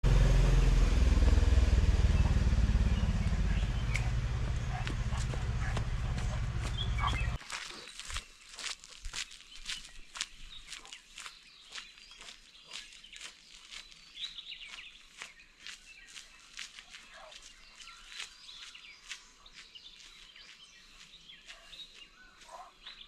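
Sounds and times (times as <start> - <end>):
birds chirping: 0.1 - 23.0
footsteps on forest path: 0.4 - 23.0.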